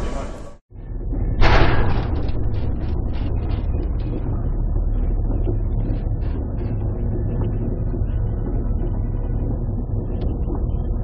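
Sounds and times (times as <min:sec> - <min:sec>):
low ship rumble: 0:00.0 - 0:11.0.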